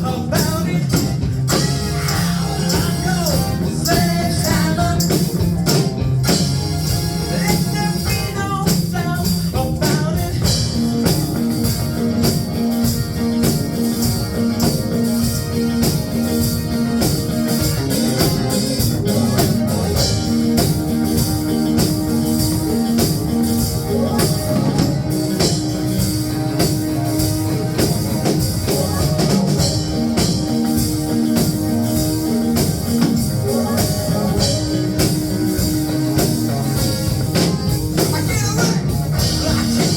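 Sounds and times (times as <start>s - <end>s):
rock music: 0.0s - 39.9s
sustained bass notes: 0.0s - 39.9s.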